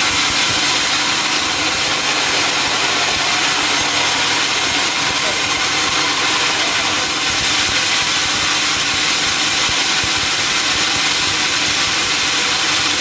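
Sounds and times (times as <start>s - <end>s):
sawmill saw running: 0.0s - 13.0s.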